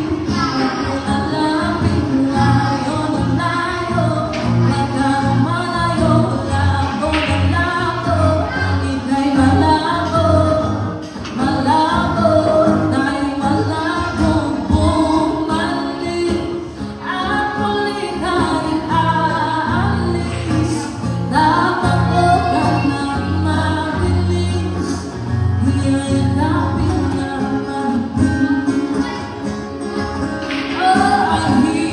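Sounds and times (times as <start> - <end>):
acoustic guitar: 0.0 - 31.9
woman singing into microphone: 0.0 - 31.9.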